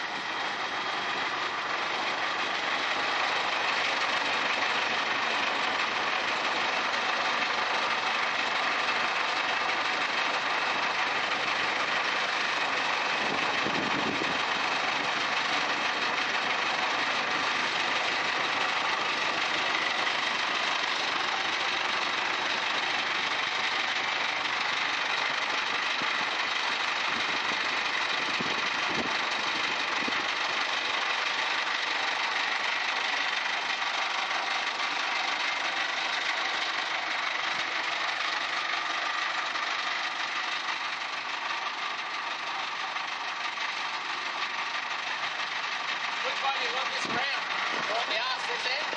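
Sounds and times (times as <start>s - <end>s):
heavy machinery engine running: 0.0s - 48.9s.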